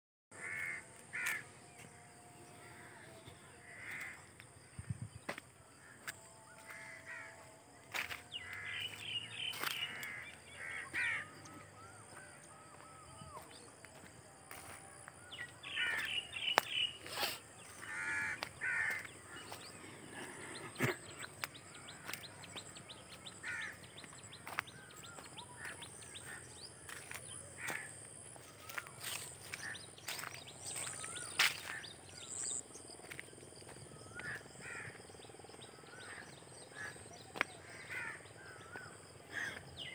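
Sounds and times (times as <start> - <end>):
crows cawing: 0.3 - 4.4, 5.8 - 13.5, 15.3 - 32.5, 34.0 - 39.9
birds chirping: 7.9 - 39.9.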